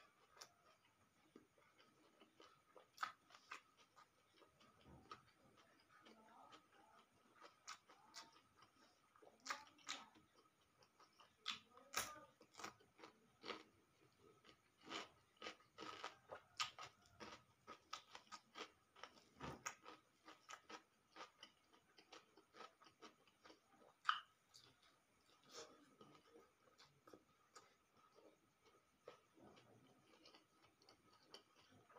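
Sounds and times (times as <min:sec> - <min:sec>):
person chewing crunchy food: 0:00.0 - 0:31.9.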